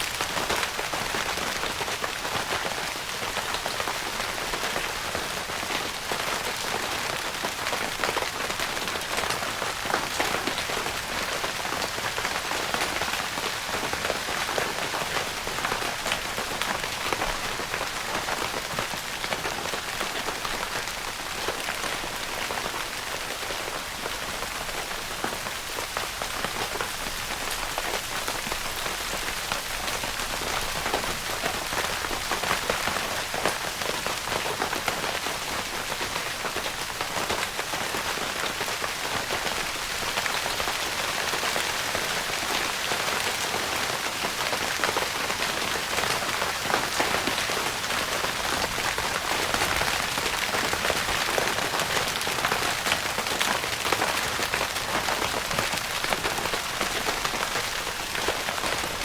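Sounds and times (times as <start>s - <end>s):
rain pattering on tent fabric: 0.0s - 59.0s.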